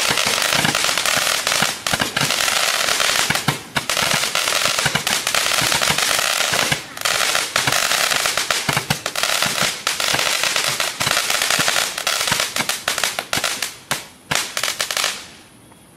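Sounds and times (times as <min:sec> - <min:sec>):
firework crackling and popping: 0:00.0 - 0:15.4.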